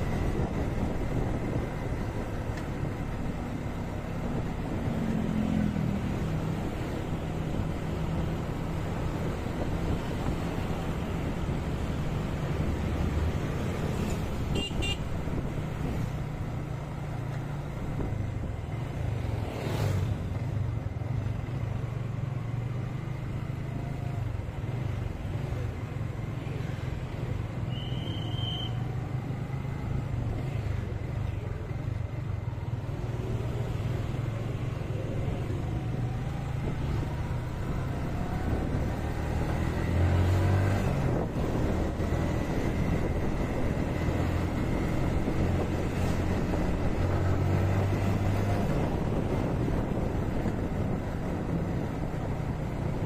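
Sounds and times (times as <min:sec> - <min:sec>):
motorcycle engine rumble: 0:00.0 - 0:53.0
passing traffic: 0:00.0 - 0:53.0.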